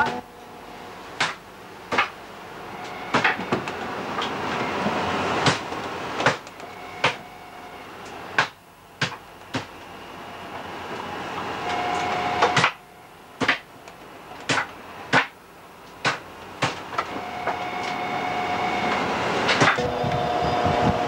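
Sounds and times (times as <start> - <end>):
machinery hum: 0.0 - 21.0.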